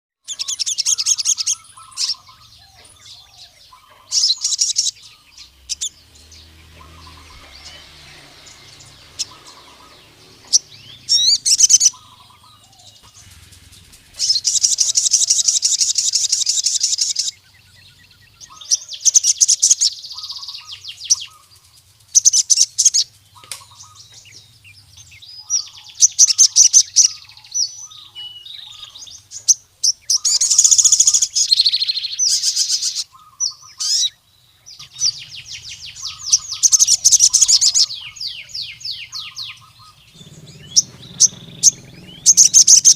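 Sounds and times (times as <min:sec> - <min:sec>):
bird singing rattling trills: 0:00.2 - 0:42.9.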